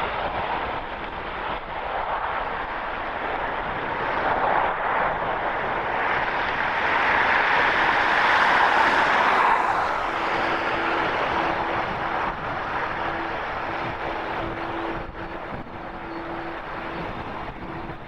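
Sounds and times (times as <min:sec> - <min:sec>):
jet airliner passing: 0:00.0 - 0:18.0.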